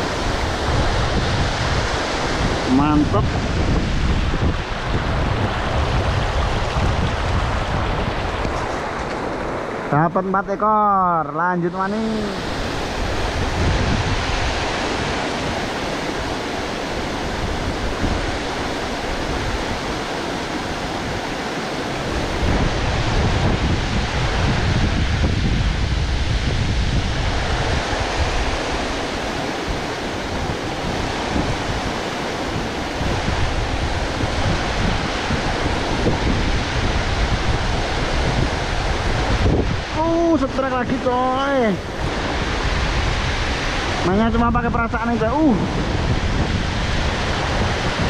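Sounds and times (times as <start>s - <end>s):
wind buffeting microphone: 0.0s - 10.6s, 11.6s - 48.0s.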